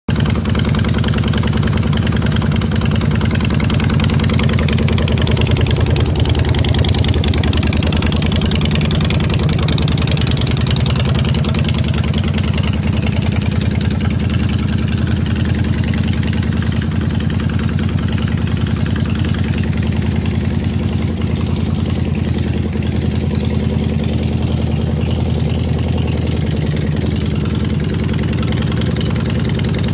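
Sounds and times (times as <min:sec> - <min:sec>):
motorcycle engine idling: 0:00.1 - 0:29.9.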